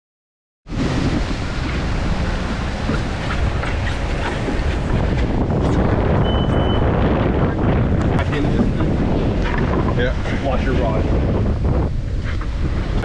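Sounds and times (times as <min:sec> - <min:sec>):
wind buffeting microphone: 0:00.7 - 0:13.0.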